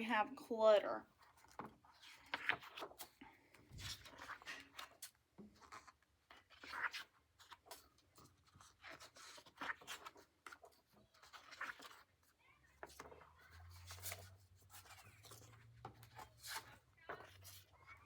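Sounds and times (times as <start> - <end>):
book pages rustling: 1.2 - 18.0.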